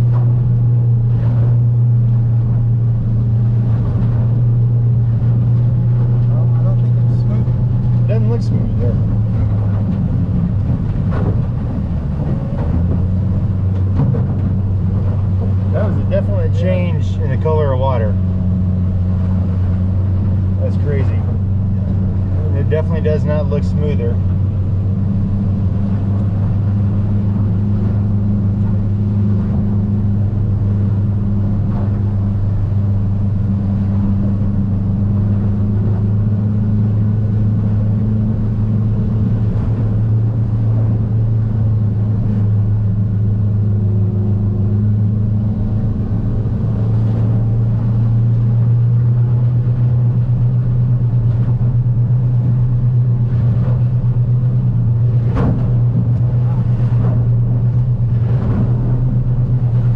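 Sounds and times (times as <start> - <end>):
outboard engine droning: 0.0 - 59.9.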